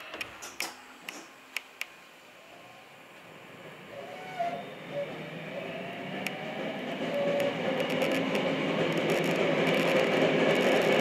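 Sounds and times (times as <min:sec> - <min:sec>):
subway train pulling away: 0:02.0 - 0:11.0.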